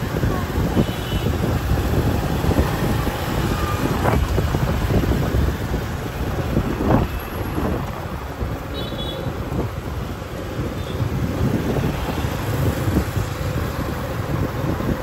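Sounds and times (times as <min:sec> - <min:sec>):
motorbikes and cars passing: 0:00.0 - 0:15.0
wind rumbling on microphone: 0:00.0 - 0:15.0.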